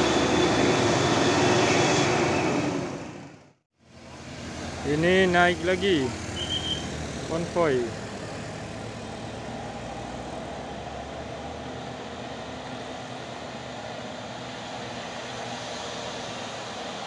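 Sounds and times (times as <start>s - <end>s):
bus diesel engines climbing: 0.0s - 17.0s.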